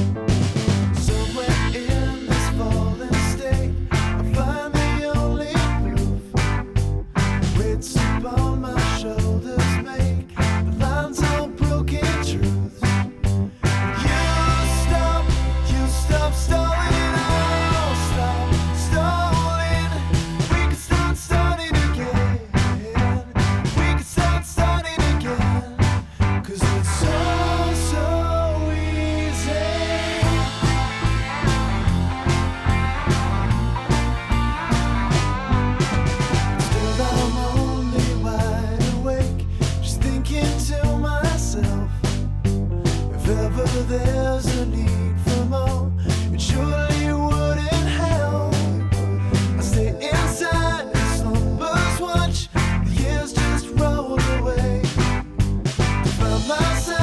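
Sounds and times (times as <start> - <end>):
rock music: 0.0 - 57.0.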